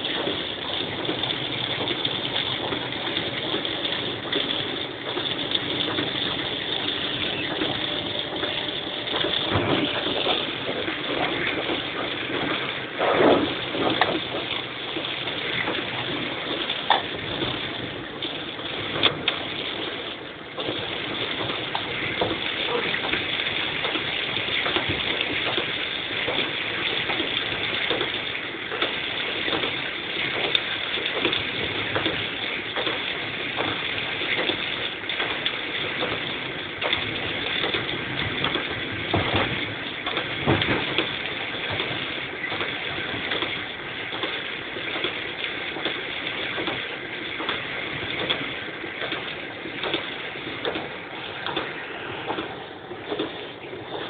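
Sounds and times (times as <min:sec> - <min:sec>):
heavy rain on car roof: 0:00.0 - 0:54.0
wet road tyre noise: 0:00.0 - 0:54.0.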